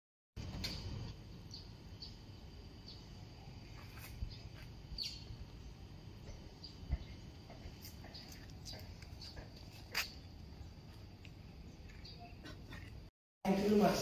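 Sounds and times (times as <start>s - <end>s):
small birds chirping: 0.7s - 13.0s.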